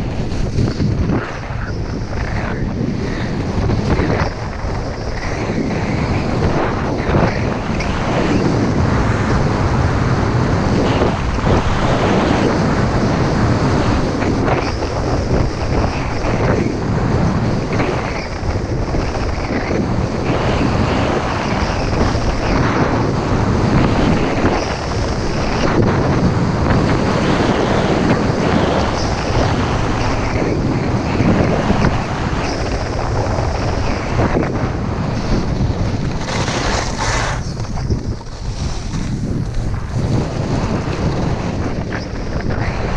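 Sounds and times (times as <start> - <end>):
skis scraping on packed snow: 0.0 - 16.6, 17.3 - 42.9
wind rushing over microphone: 0.0 - 42.9.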